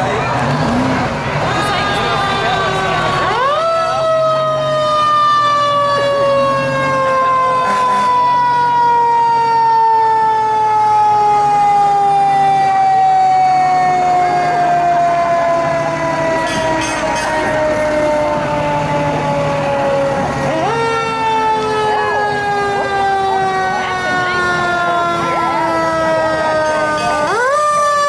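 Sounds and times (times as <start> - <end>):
fire truck engine hum: 0.0 - 28.0
fire truck siren: 0.0 - 28.0.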